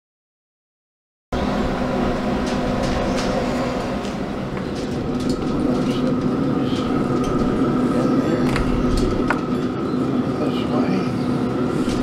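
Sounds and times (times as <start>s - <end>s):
smoker fan electric hum: 1.4s - 12.0s.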